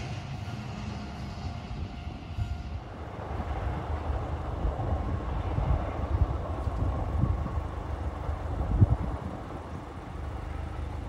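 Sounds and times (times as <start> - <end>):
train rumbling: 0.0 - 11.0
wind buffeting microphone: 0.0 - 11.0.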